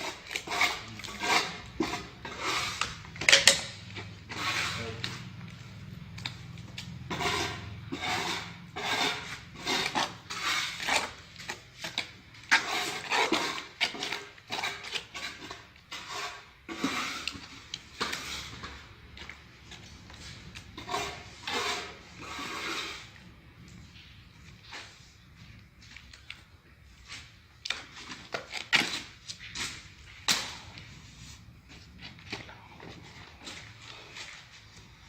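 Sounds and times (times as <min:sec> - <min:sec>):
hand tool scraping tile: 0:00.0 - 0:05.6, 0:06.2 - 0:23.8, 0:27.0 - 0:35.0.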